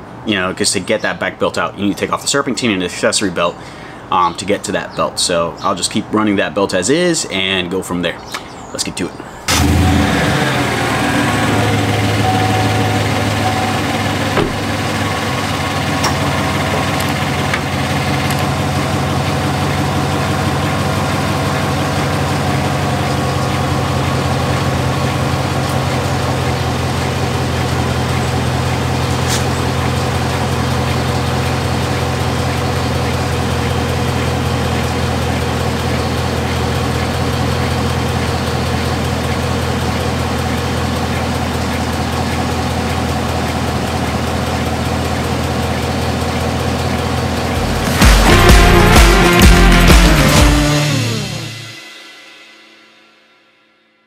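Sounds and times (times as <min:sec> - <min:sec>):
truck engine idling: 0:08.3 - 0:51.8.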